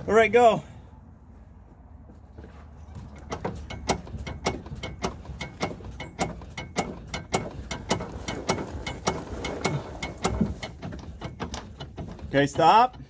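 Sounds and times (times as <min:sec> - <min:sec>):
car suspension clicking and clunking: 0:02.4 - 0:13.0.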